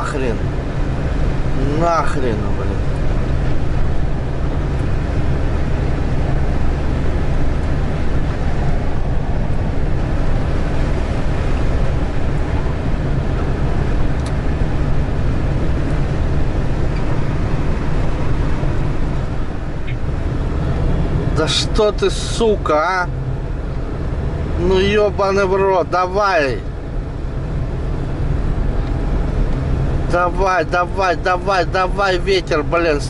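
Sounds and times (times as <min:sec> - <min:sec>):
road and wind noise: 0:00.0 - 0:33.0
van engine labouring: 0:00.0 - 0:33.0.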